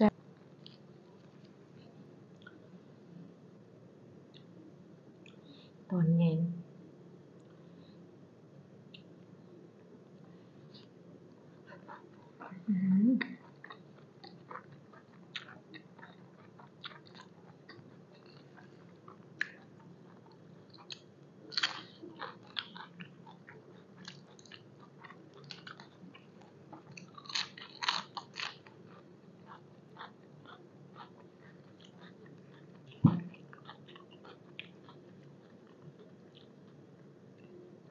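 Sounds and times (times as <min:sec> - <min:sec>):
chewing and crunching food: 0:00.2 - 0:02.7, 0:10.0 - 0:37.9.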